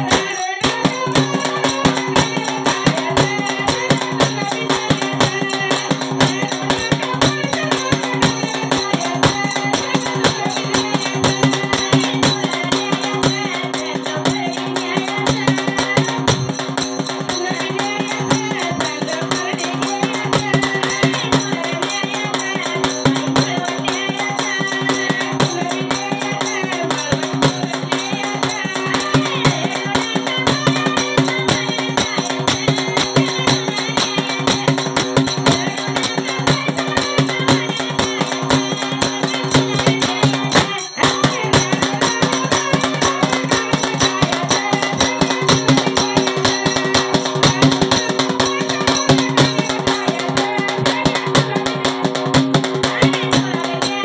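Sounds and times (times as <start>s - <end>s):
drum beat: 0.0s - 54.0s
person singing through microphone: 0.0s - 54.0s
small hand cymbals: 0.0s - 54.0s.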